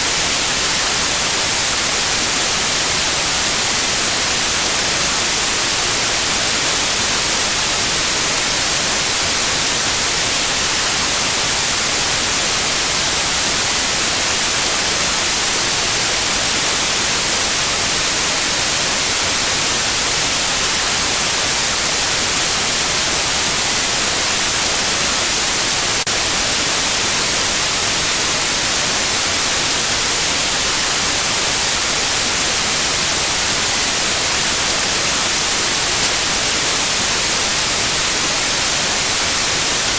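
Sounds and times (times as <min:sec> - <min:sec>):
high-pitched pure tone: 0:00.0 - 0:39.9
white noise hiss: 0:00.0 - 0:39.9.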